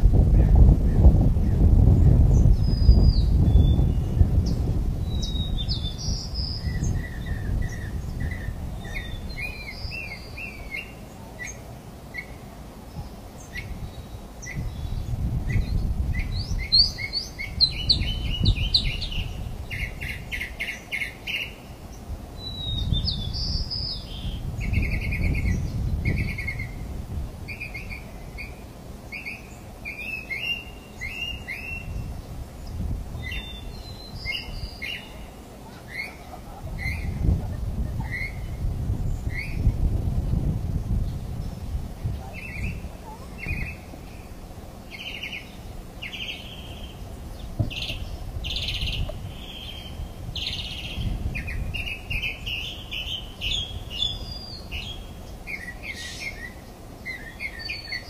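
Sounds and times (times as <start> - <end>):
birds chirping and trilling: 0.8 - 58.0.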